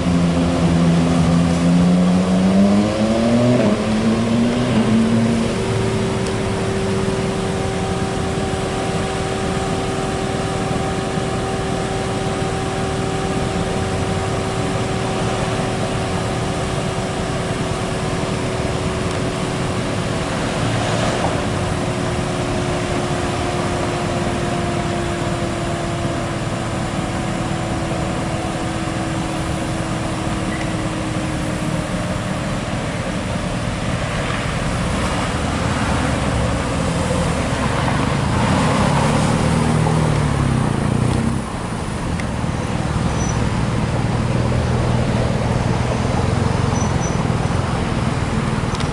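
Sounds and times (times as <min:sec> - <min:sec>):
car engine rumbling: 0:00.0 - 0:48.9.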